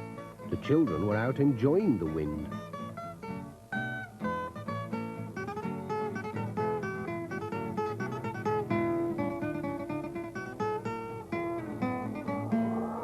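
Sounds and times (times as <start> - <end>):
acoustic guitar plucking notes: 0.0 - 13.0.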